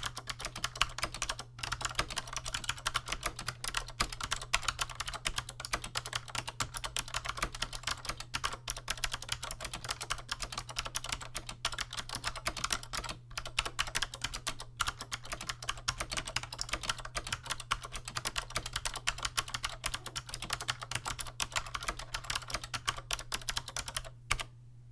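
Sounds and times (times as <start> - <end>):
fast typing on clicky keyboard: 0.0 - 24.5.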